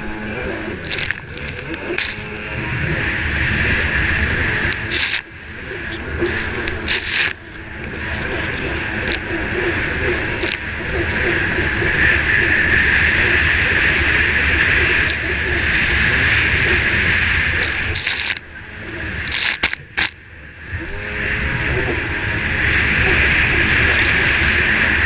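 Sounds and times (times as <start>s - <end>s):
jet ski engine: 0.0s - 25.0s
wind: 0.0s - 25.0s.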